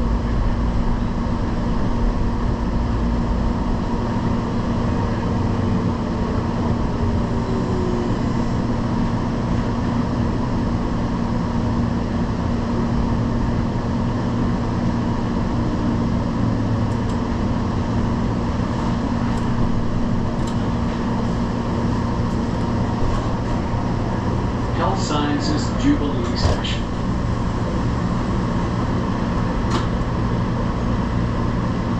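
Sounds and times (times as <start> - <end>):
vehicle interior rumble: 0.0 - 31.9.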